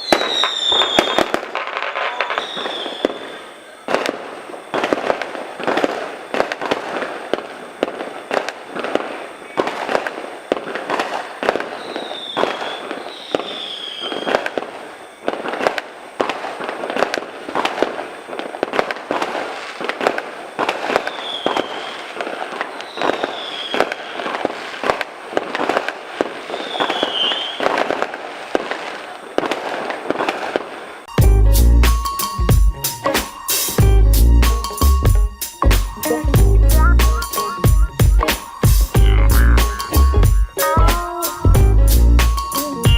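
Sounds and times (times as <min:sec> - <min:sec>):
fireworks bangs: 0:00.0 - 0:31.3, 0:34.4 - 0:41.6.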